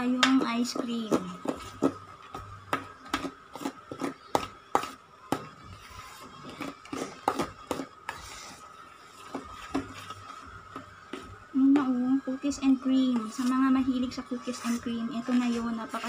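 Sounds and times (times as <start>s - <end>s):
faint steady whine: 0.0s - 16.0s.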